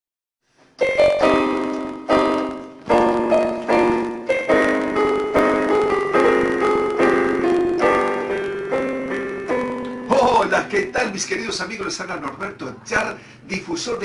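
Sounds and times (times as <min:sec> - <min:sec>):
piano chords ringing: 0:00.8 - 0:12.6.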